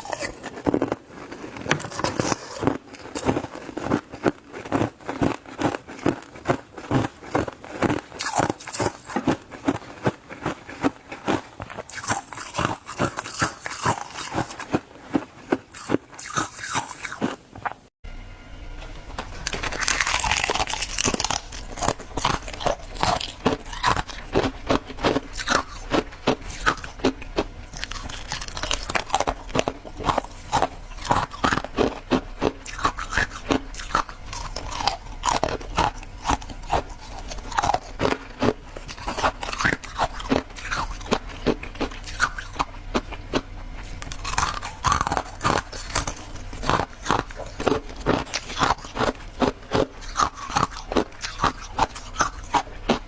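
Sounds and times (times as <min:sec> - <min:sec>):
chewing crunchy shaved ice: 0:00.0 - 0:17.9, 0:19.1 - 0:53.0.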